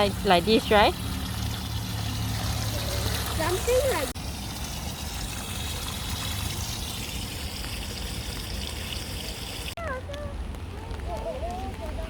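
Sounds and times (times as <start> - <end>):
fast-flowing water rushing: 0.0 - 9.8.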